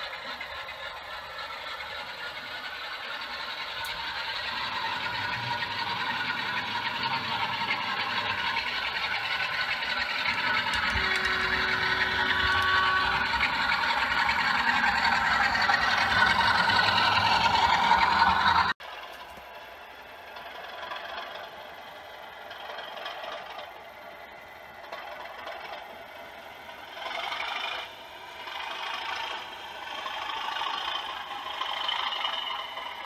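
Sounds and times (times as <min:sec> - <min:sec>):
model locomotive engine sound: 0:00.0 - 0:33.0
wheels rattling on track: 0:00.0 - 0:33.0.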